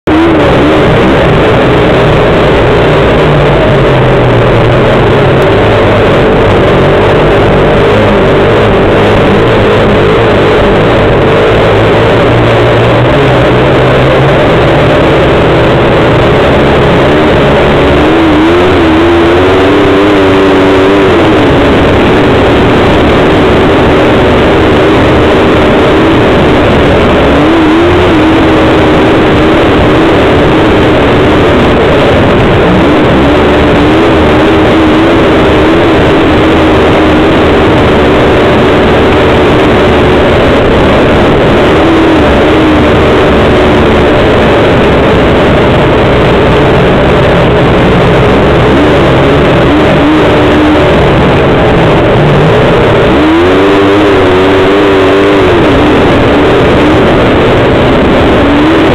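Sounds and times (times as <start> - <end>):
off-road vehicle engine running: 0.0 - 58.9.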